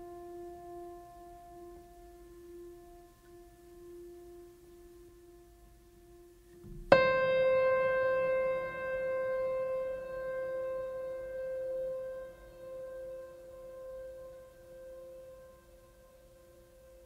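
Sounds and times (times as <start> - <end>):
low sustained tone: 0.0 - 17.0.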